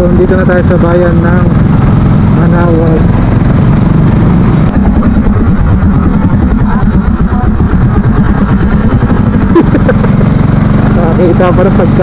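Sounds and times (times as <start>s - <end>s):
motor scooter engine running: 0.0s - 12.0s
road rumble: 0.0s - 12.0s.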